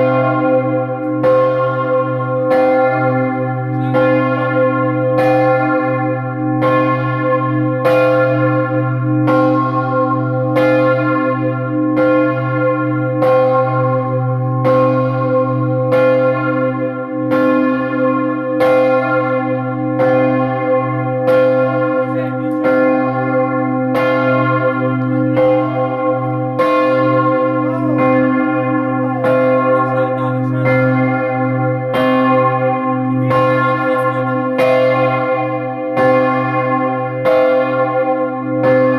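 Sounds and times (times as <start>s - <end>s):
large bell ringing: 0.0s - 38.9s.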